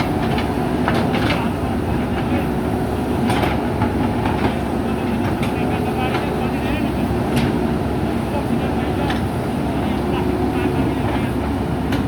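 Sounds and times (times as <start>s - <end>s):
diesel backhoe engine running: 0.0s - 12.0s.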